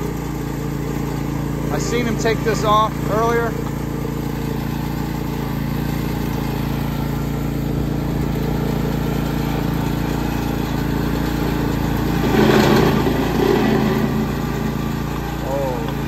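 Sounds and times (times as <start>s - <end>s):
mower engine idling: 0.0s - 16.0s.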